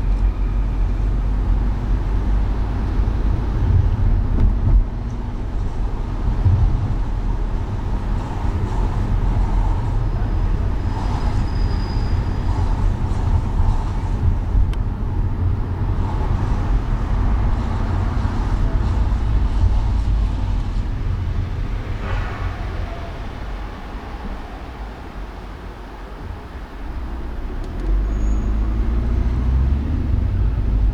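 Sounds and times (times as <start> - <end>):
car engine and tyres rumbling: 0.0 - 30.9
surrounding traffic noise: 0.0 - 30.9.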